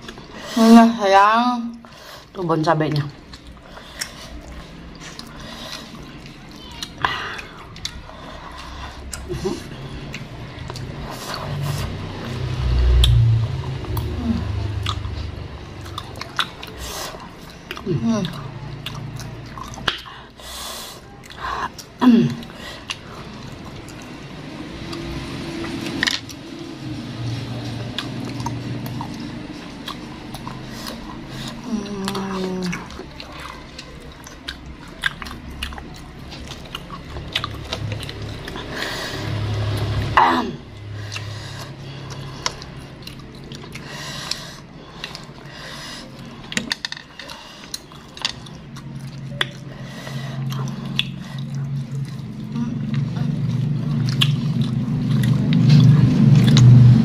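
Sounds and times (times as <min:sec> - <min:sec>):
eating crunches and mouth clicks: 0:00.0 - 0:00.6, 0:01.7 - 0:26.6, 0:27.2 - 0:57.0
low hum: 0:02.6 - 0:20.4, 0:21.1 - 0:57.0.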